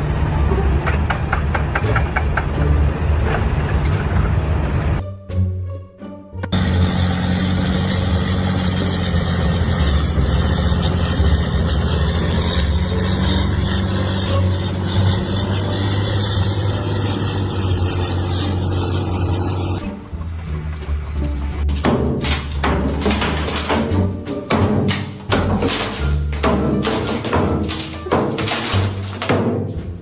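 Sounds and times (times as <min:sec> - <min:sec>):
large engine humming: 0:00.0 - 0:29.2.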